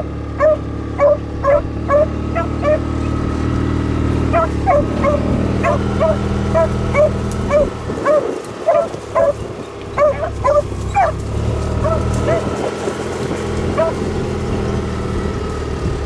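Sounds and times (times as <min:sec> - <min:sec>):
dogs baying: 0:00.0 - 0:03.3, 0:04.1 - 0:14.8
utility vehicle engine idling: 0:00.0 - 0:16.0.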